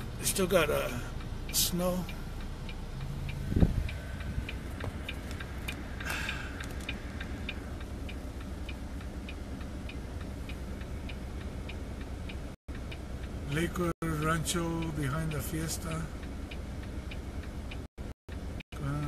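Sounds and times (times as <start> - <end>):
diesel engine idling: 0.0 - 19.0
turn signal ticking: 0.0 - 19.0.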